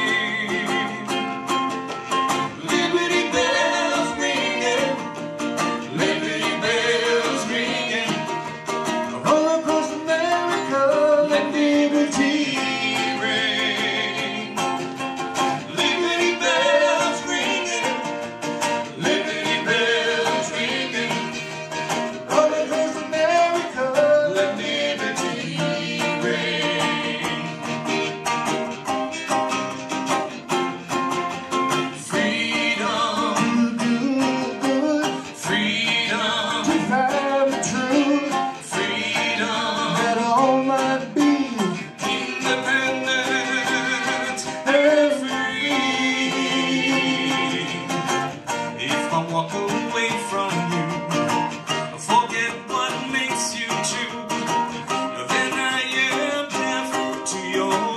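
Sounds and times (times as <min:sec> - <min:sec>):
people singing: 0:00.0 - 0:57.9
strummed guitar: 0:00.0 - 0:57.9.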